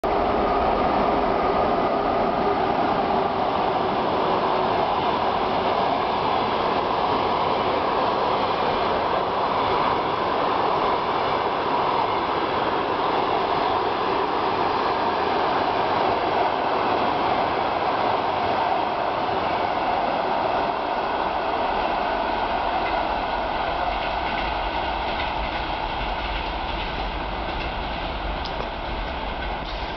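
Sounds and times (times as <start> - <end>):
train wheels running on rails: 0.1 - 29.9.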